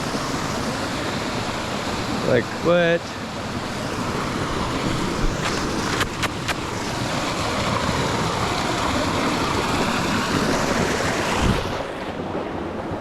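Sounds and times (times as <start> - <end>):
river water rushing: 0.0 - 13.0
waterfall: 0.0 - 13.0.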